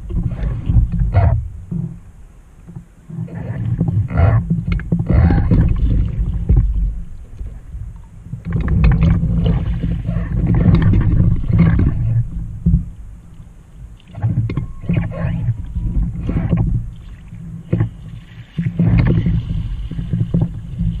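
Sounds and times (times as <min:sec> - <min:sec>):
water sloshing around kayak: 0:00.0 - 0:21.0.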